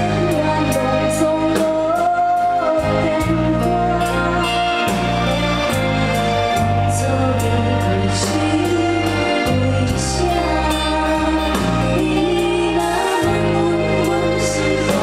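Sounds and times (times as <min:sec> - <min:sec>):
band with bass and cymbals: 0:00.0 - 0:15.0
sung vocal harmonies: 0:00.0 - 0:15.0.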